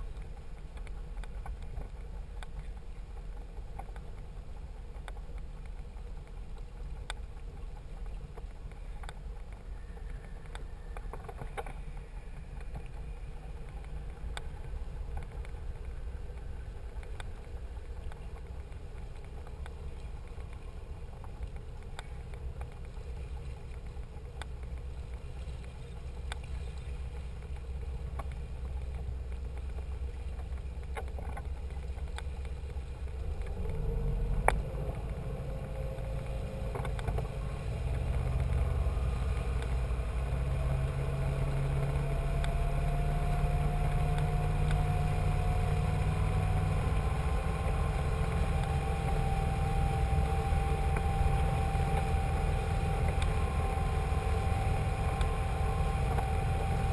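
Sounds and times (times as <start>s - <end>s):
boat engine drone: 0.0s - 56.9s
faint rising whine: 0.0s - 56.9s.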